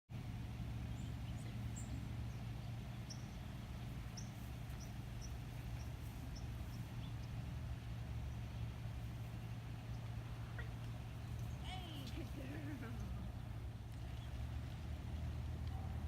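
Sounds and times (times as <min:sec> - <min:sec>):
steady low hum: 0:00.1 - 0:16.0
small birds chirping: 0:00.2 - 0:16.0.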